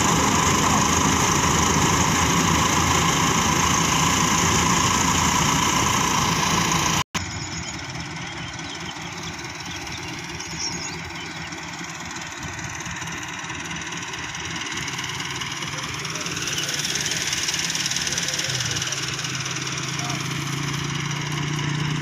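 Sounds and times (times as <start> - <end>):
tractor engine driving thresher: 0.0 - 22.0.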